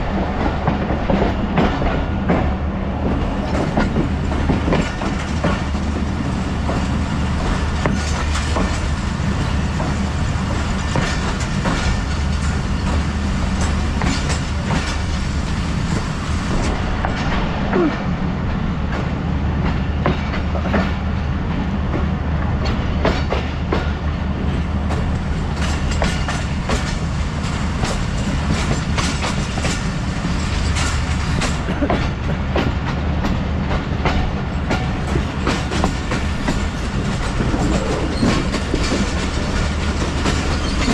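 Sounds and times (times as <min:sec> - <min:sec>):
train rumbling on track: 0:00.0 - 0:40.9
wheels clacking over rails: 0:00.2 - 0:18.0, 0:22.6 - 0:40.9.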